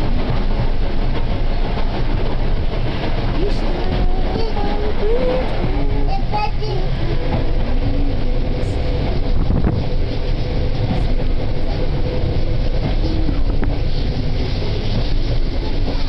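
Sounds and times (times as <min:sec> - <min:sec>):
moving train rumbling: 0:00.0 - 0:16.0
wind buffeting microphone: 0:00.0 - 0:16.0.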